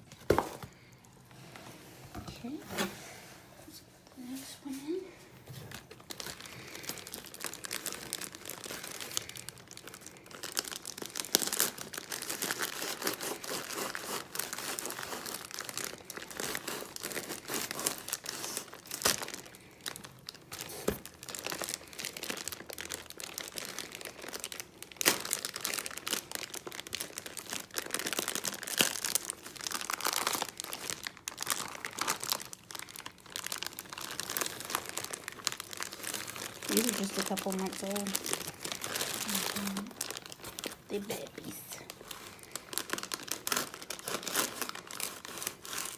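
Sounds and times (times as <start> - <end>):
plastic bag crinkling: 4.1 - 45.9.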